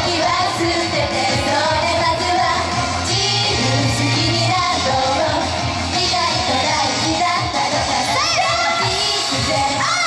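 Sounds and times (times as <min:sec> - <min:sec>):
loud pop backing track: 0:00.0 - 0:10.0
young female voices singing: 0:00.0 - 0:10.0.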